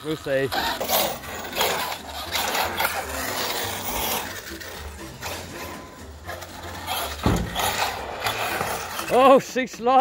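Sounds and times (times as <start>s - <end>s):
rc car scraping on concrete: 0.0s - 10.0s.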